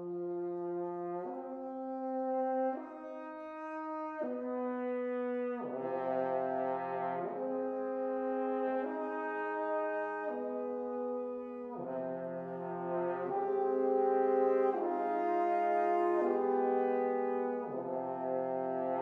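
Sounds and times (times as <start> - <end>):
french horns playing chords: 0.0 - 19.0.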